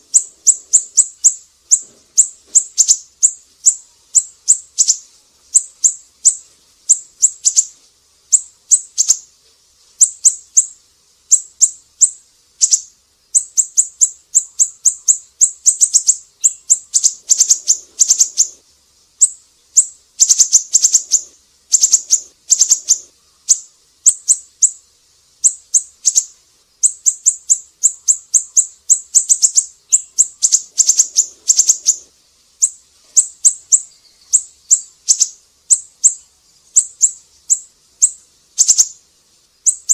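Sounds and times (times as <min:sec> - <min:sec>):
bird chirping high-pitched: 0:00.0 - 0:09.3, 0:10.0 - 0:18.6, 0:19.2 - 0:24.8, 0:25.4 - 0:39.0, 0:39.6 - 0:39.9.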